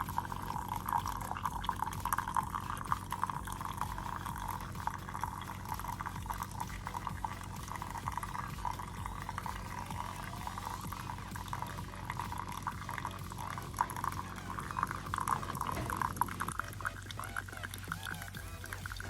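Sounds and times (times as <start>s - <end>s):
coffee maker humming: 0.0s - 19.0s
coffee streaming into a cup: 0.0s - 19.0s.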